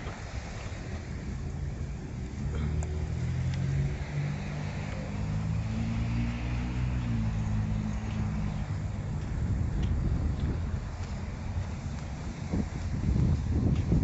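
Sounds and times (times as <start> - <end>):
vehicle engine passing: 0.0 - 14.0.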